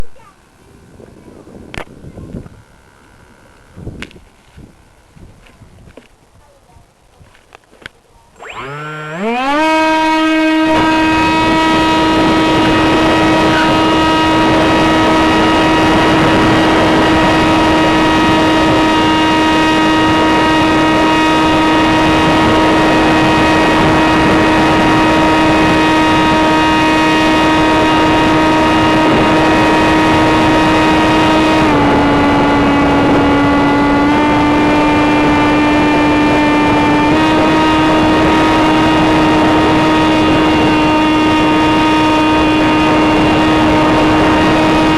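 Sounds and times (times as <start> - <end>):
electric motor and propeller whine: 0.0 - 6.1, 8.3 - 44.9
rushing wind: 0.0 - 7.4, 8.2 - 44.9.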